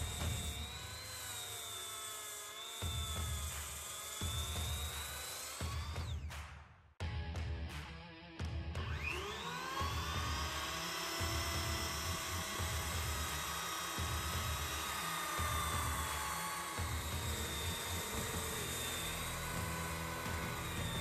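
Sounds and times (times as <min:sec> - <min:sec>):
circular saw cutting wood: 0:00.0 - 0:06.2, 0:08.8 - 0:21.0.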